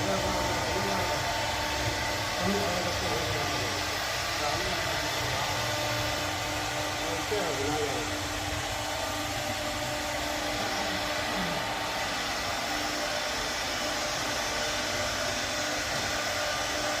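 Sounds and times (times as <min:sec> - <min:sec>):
electric motor whirring: 0:00.0 - 0:17.0.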